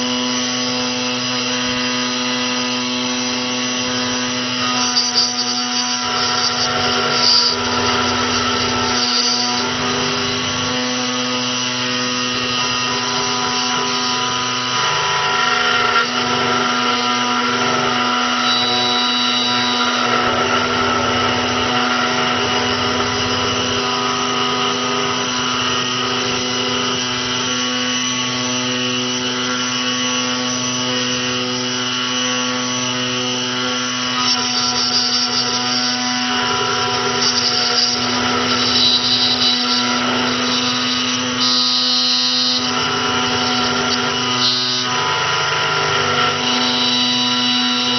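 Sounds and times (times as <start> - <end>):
key cutting machine hum and whine: 0.0 - 47.9.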